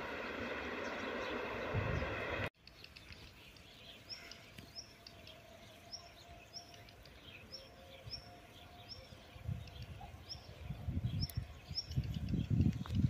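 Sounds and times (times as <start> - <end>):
small bird chirping: 0.8 - 13.0.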